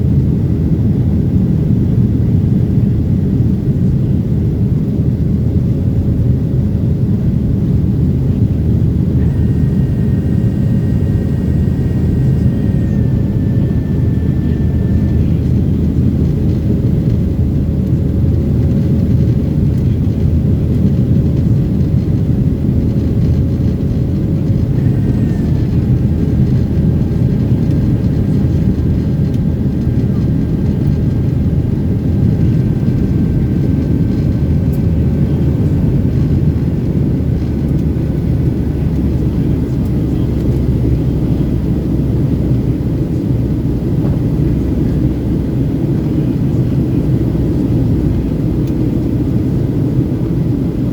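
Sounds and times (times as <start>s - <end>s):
airplane engines rumbling: 0.0s - 50.9s.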